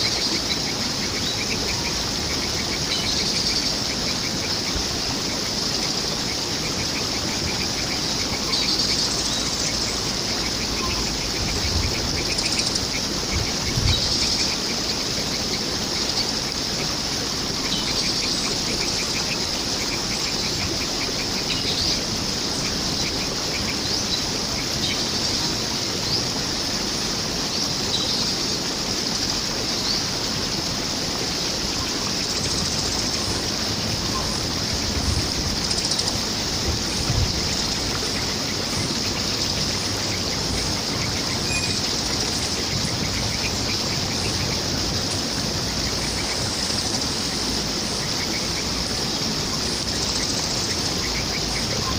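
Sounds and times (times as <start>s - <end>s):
birds chirping: 0.0s - 51.9s
running water rushing: 0.0s - 51.9s.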